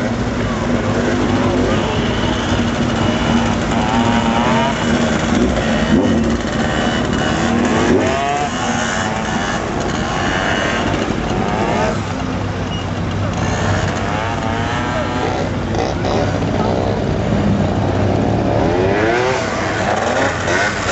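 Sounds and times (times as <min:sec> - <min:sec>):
scooter engine revving: 0:00.0 - 0:20.9.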